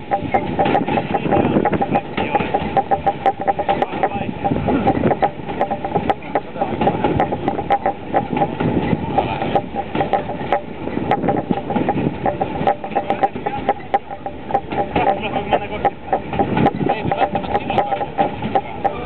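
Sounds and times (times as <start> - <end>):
metallic ringing tones: 0.0 - 19.0
train carriage clattering and rattling: 0.0 - 19.0.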